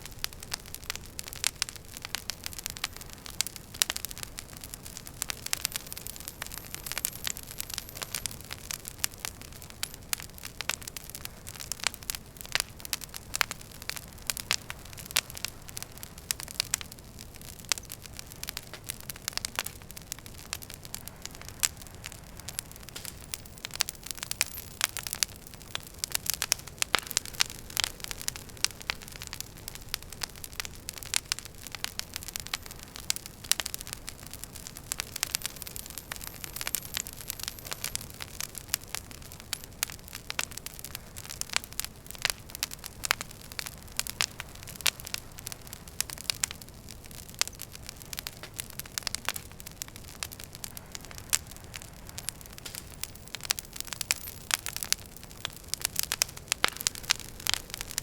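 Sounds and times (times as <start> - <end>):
low rumble and hiss of fire: 0.0 - 58.0
wood fire crackling and popping: 0.0 - 58.0.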